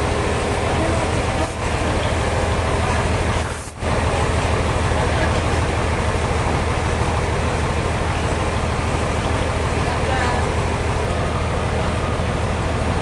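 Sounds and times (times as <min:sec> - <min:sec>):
sawmill machinery drone: 0:00.0 - 0:13.0.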